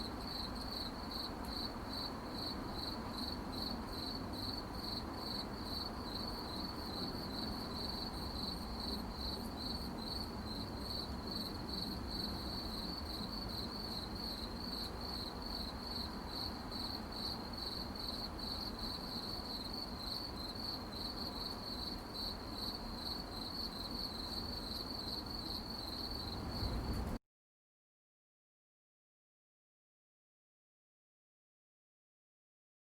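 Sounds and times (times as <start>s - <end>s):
low background noise: 0.0s - 27.2s
crickets chirping: 0.1s - 27.2s.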